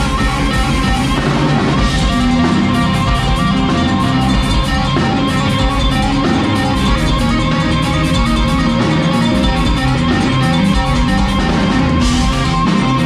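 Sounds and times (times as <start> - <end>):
bass guitar: 0.0 - 13.0
cymbals ticking: 0.0 - 13.0
electric guitar: 0.0 - 13.0.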